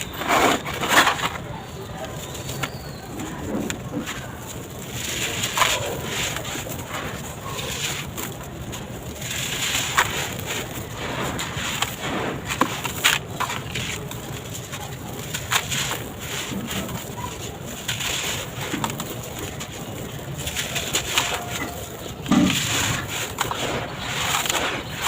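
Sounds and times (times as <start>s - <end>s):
concrete blocks crumbling: 0.0s - 25.0s.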